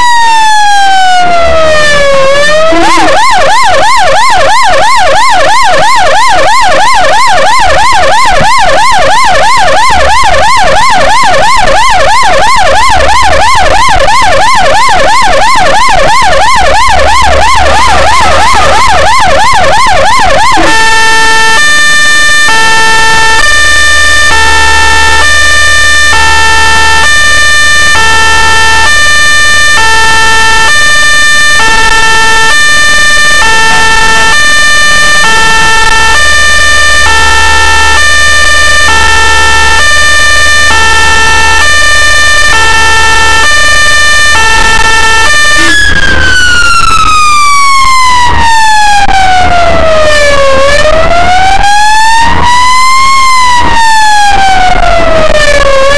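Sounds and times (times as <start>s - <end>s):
ambulance siren: 0.0s - 55.9s
engine and road rumble: 0.0s - 55.9s.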